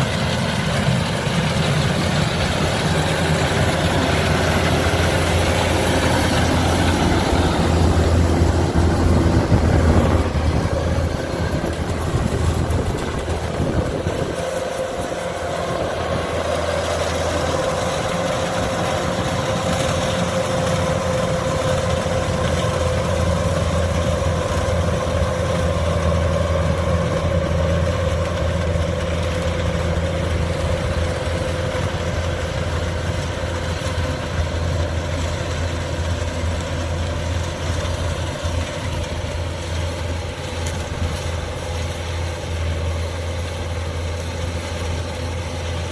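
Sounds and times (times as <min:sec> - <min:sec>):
combine harvester diesel engine: 0:00.0 - 0:45.9.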